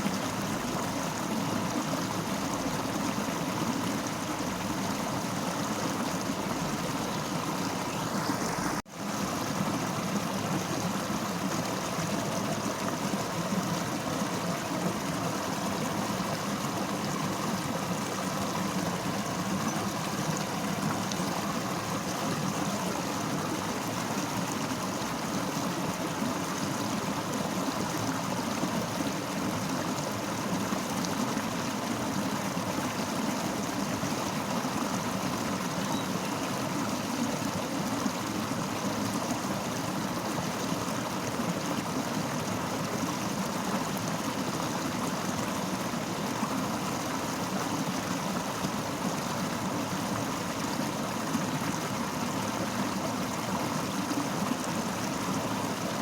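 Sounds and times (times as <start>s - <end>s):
fast-flowing river: 0.0s - 56.0s.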